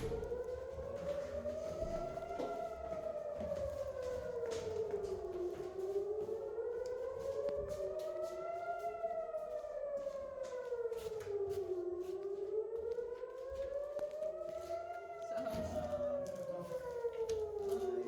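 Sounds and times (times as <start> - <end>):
air-raid siren wailing: 0.0 - 18.0.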